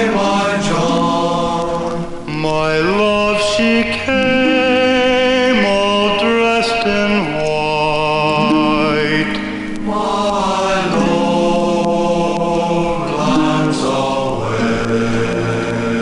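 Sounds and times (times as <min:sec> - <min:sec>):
voices chanting held notes: 0:00.0 - 0:16.0.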